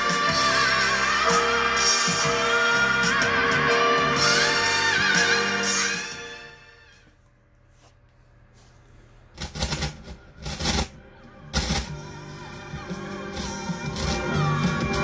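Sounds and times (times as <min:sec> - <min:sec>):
music through amplifier: 0:00.0 - 0:06.9, 0:09.4 - 0:15.0.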